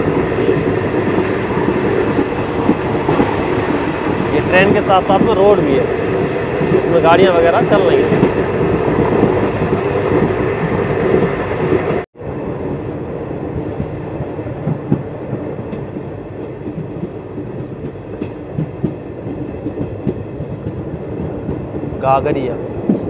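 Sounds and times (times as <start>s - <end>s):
train wheel knocks and clacks: 0.0s - 12.0s, 13.4s - 23.0s
train rumbling on track: 0.0s - 23.0s.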